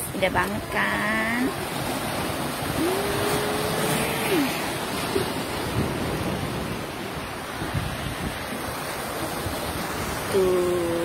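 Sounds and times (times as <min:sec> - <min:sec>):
waves breaking over rocks: 0:00.0 - 0:11.0.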